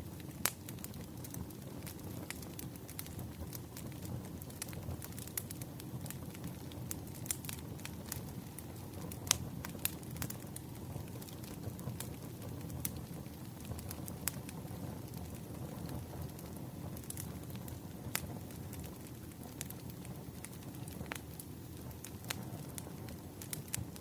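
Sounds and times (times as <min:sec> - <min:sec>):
low fire rumble: 0:00.0 - 0:24.0
wood fire crackling: 0:00.0 - 0:24.0.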